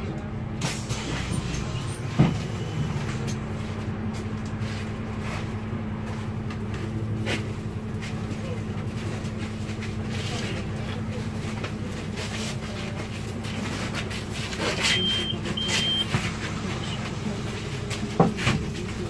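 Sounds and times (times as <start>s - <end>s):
bus engine and road hum: 0.0s - 19.0s.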